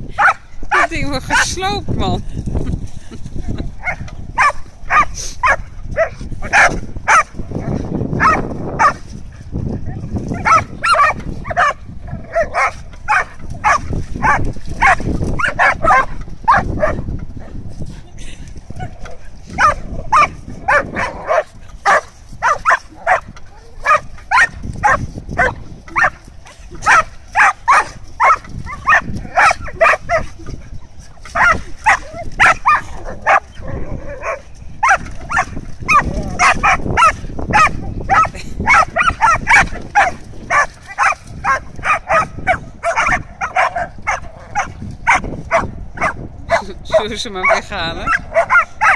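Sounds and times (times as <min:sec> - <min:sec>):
dog barking: 0:00.1 - 0:01.4, 0:03.8 - 0:07.3, 0:08.2 - 0:09.0, 0:10.3 - 0:17.0, 0:19.6 - 0:26.2, 0:26.8 - 0:30.3, 0:31.3 - 0:46.6, 0:47.4 - 0:48.9.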